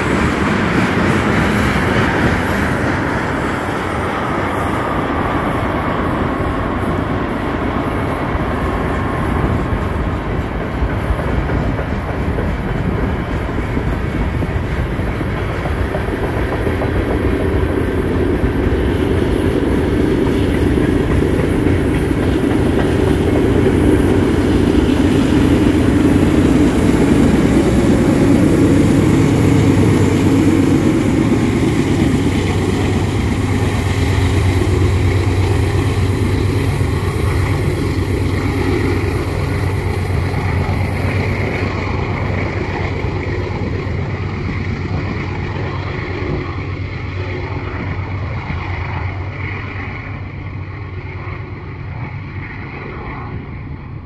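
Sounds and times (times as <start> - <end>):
freight train rumbling by: 0.0 - 54.0.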